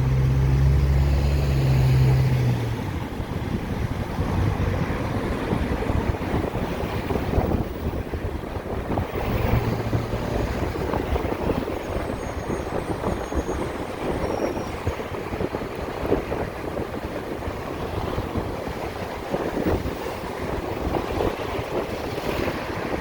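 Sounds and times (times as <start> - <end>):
road noise: 0.0 - 23.0
wind rushing over microphone: 0.0 - 23.0.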